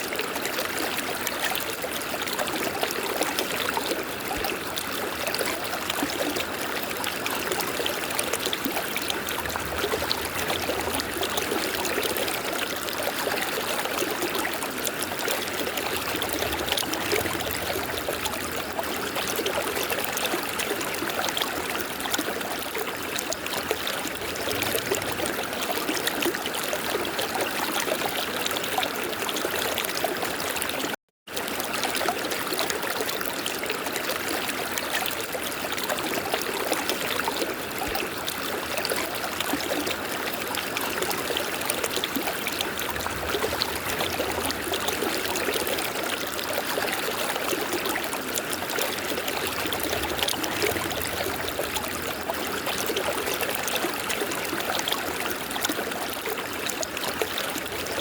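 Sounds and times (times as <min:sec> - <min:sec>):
river water flowing: 0:00.0 - 0:30.8, 0:31.4 - 0:58.0.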